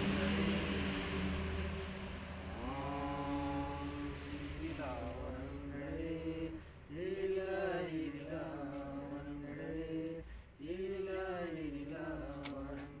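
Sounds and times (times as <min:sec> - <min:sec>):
man chanting a prayer: 0:00.0 - 0:01.3, 0:02.5 - 0:13.0.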